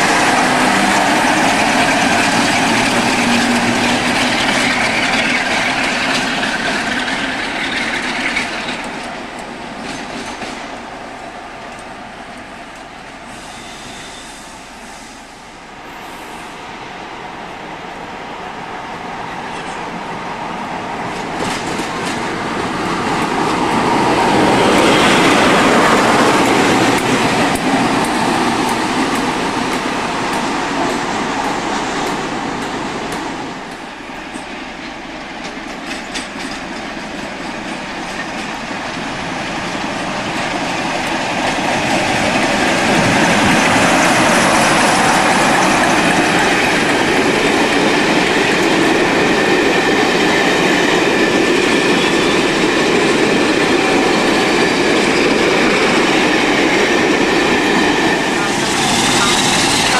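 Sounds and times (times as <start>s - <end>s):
train wheels clicking over rail joints: 0.0s - 15.2s, 21.0s - 59.9s.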